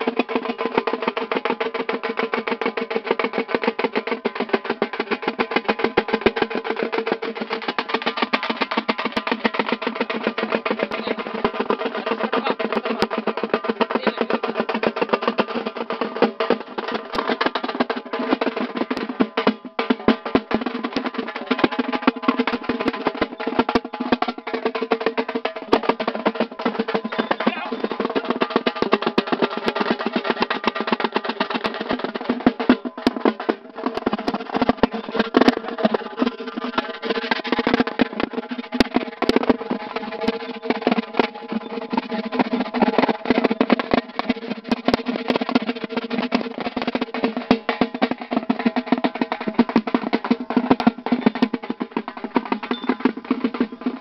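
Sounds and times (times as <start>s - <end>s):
drum rolls: 0.0s - 54.0s.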